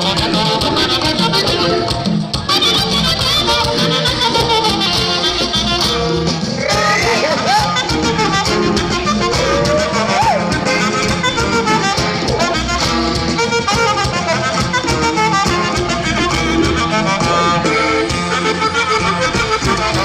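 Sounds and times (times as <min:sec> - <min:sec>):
band music with saxophone: 0:00.0 - 0:20.0.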